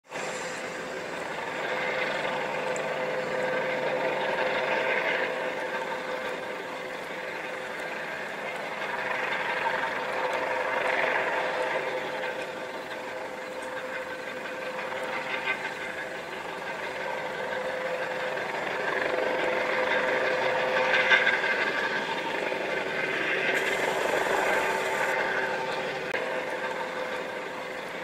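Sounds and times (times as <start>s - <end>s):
helicopter engine whine: 0.1s - 28.0s
helicopter rotors rushing: 0.1s - 28.0s.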